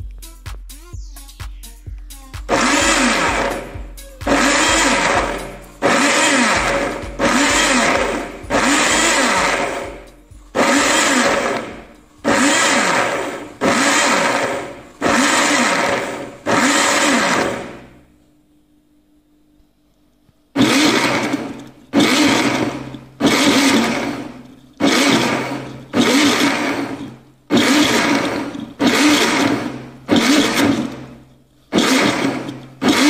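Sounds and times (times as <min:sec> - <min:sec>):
blender chopping in bursts: 0:02.5 - 0:18.0, 0:20.6 - 0:33.0.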